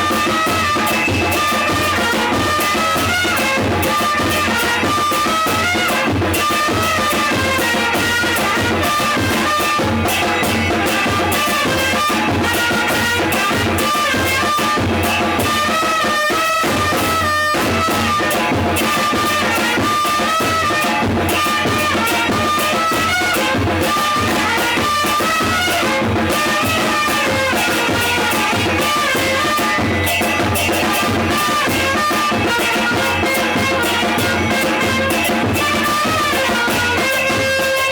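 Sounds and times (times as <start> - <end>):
snare drum: 0.0 - 37.9
trumpets playing a melody: 0.0 - 37.9.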